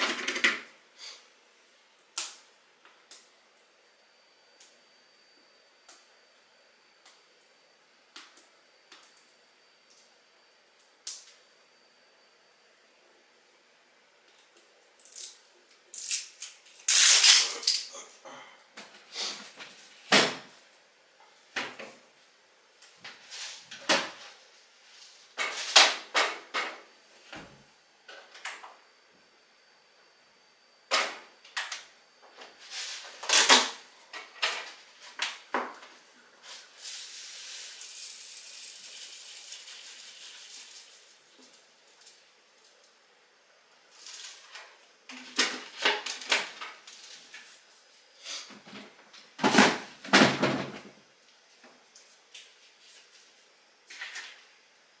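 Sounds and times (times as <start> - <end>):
steady hiss: 0.0 - 49.8.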